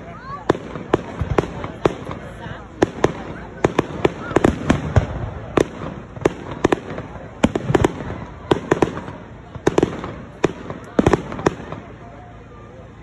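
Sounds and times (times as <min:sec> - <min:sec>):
fireworks bangs and pops: 0:00.2 - 0:12.4.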